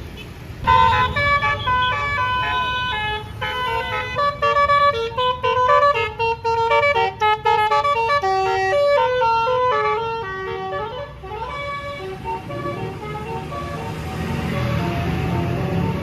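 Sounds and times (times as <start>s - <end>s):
bus horn playing stepped notes: 0.6s - 16.0s.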